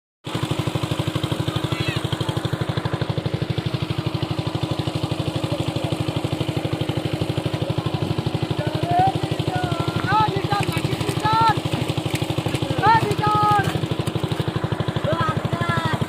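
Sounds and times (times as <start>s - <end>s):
small engine chugging: 0.2s - 16.0s.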